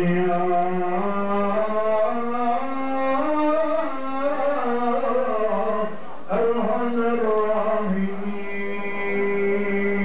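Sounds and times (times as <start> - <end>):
man chanting: 0.0 - 10.0.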